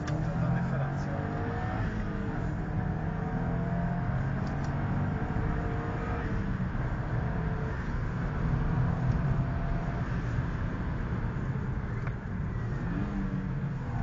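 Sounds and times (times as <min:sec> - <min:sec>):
car engine running: 0:00.0 - 0:14.0
road and tyre rumble: 0:00.0 - 0:14.0.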